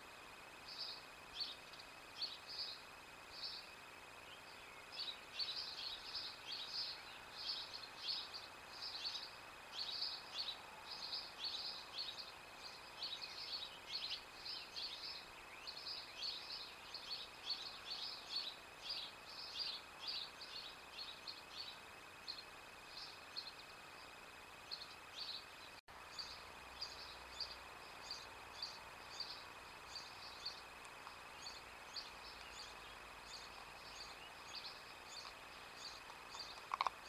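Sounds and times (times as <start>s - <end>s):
faint outdoor hiss: 0.0s - 37.0s
songbirds chirping: 0.0s - 37.0s.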